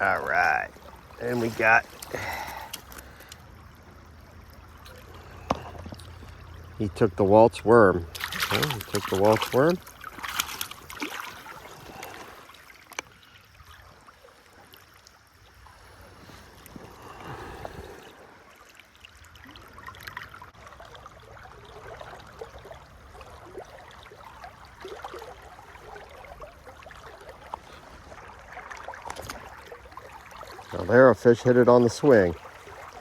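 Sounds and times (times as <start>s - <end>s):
river flowing: 0.0s - 33.0s
small water splashes: 0.0s - 33.0s.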